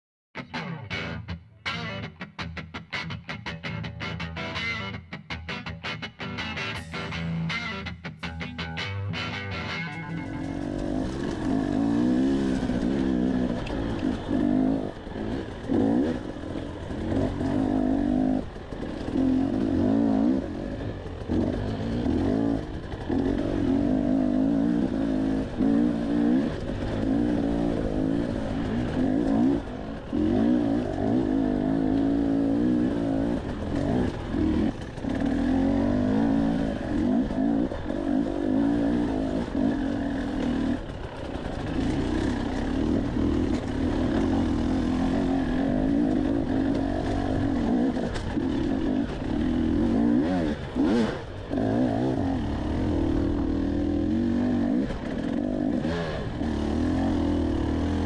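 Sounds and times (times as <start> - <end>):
dirt bike engine revving: 9.9 - 58.0.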